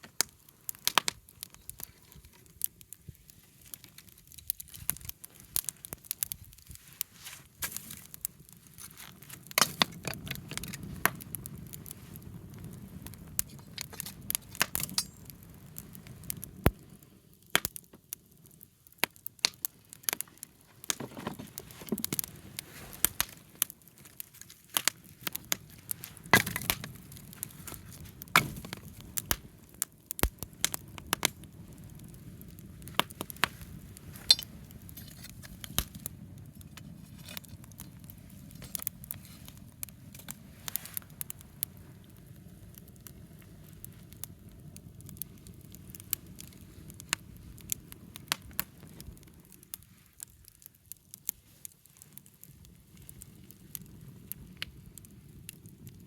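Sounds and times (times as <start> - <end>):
bonfire crackling and popping: 0.0 - 56.0
low rush of flames: 0.1 - 56.0.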